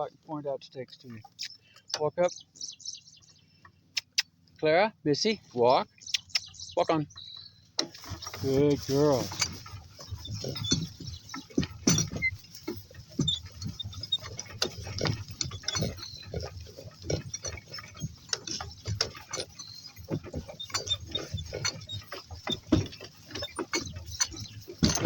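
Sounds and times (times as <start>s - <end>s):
cart and harness rattling: 0.0s - 25.0s.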